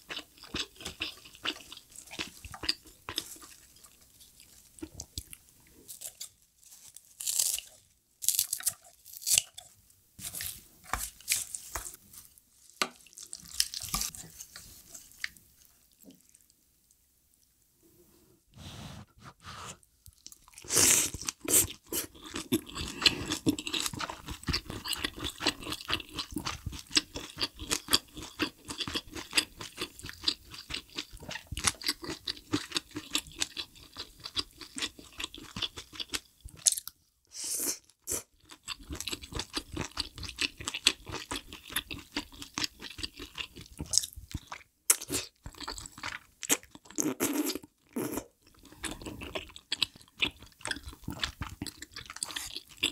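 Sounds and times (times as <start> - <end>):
person chewing crunchy food: 0.0 - 16.5, 20.1 - 52.9.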